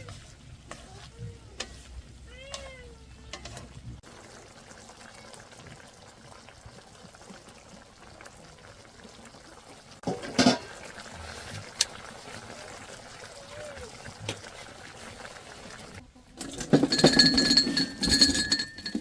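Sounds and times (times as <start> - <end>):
liquid bubbling in a pot: 0.0 - 19.0.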